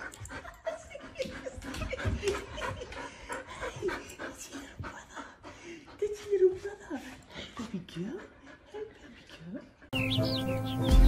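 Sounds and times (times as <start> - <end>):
dog panting and sniffing: 0.0 - 10.0.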